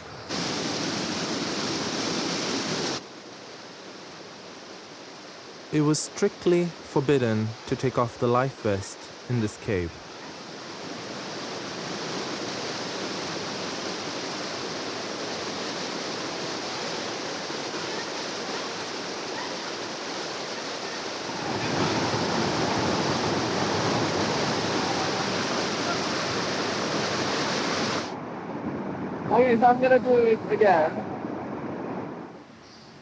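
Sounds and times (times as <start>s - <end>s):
rush of moving water: 0.3s - 31.1s.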